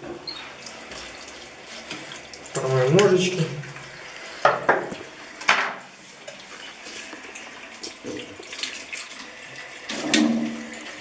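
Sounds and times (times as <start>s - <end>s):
tap water running into sink: 0.6s - 11.0s.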